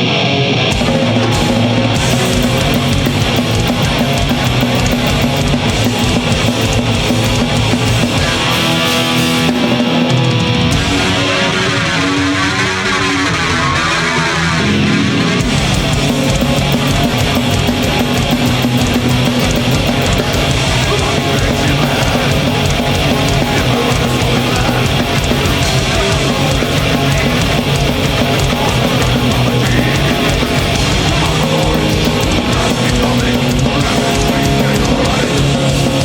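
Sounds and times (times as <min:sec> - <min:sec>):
heavy metal band playing live: 0:00.0 - 0:36.0.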